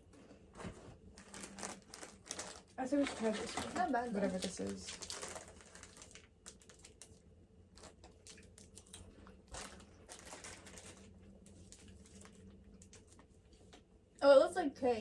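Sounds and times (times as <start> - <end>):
plastic wrapper crackling: 1.1 - 13.3.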